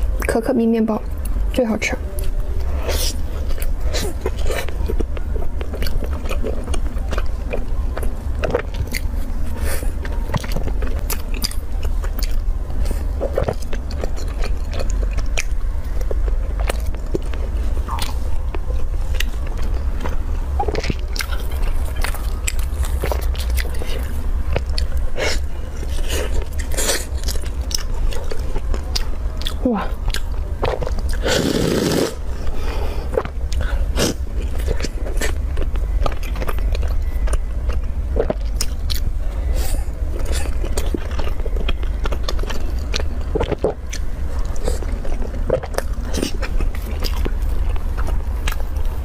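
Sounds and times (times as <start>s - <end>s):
steady low hum: 0.0s - 49.0s
person chewing: 2.1s - 49.0s.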